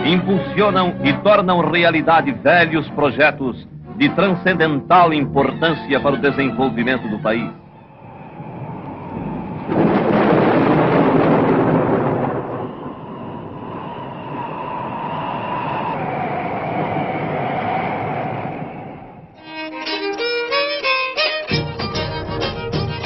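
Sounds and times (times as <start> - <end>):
train passing: 0.0 - 20.7.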